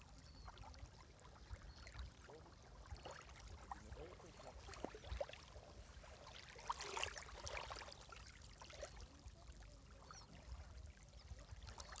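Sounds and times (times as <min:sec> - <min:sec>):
shallow water lapping and trickling: 0:00.0 - 0:12.0.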